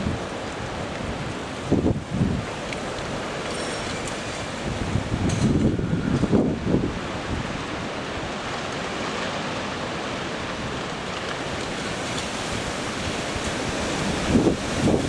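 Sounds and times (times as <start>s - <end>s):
wind noise on microphone: 0.0s - 9.7s, 10.5s - 15.0s
strong hurricane wind rushing: 0.0s - 15.0s.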